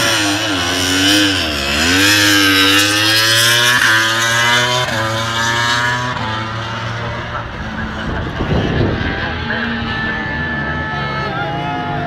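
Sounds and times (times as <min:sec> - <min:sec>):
racing motorcycle at high revs: 0:00.0 - 0:12.0.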